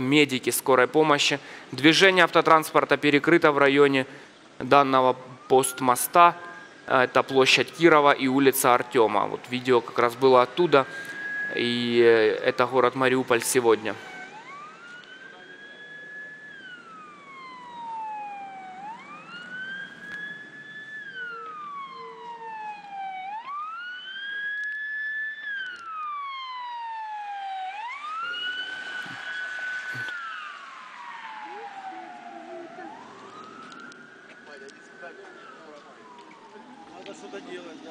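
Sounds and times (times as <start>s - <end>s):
emergency vehicle siren wailing: 0.0s - 37.9s.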